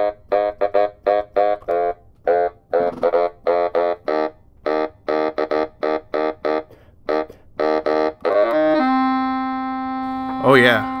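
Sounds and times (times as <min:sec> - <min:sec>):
digital saxophone notes: 0:00.0 - 0:11.0.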